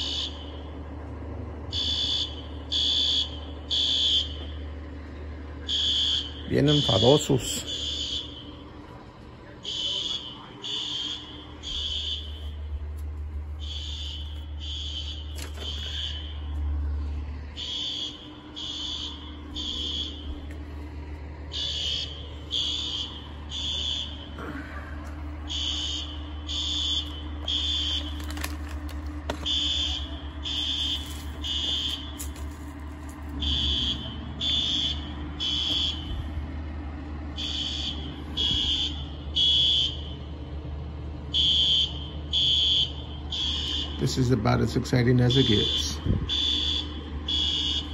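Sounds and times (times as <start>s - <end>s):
fire alarm beeping: 0.0s - 0.8s, 1.7s - 4.6s, 5.6s - 16.7s, 17.5s - 20.9s, 21.5s - 24.4s, 25.5s - 28.6s, 29.3s - 36.3s, 37.4s - 40.3s, 41.3s - 47.9s
low steady hum: 0.0s - 47.9s.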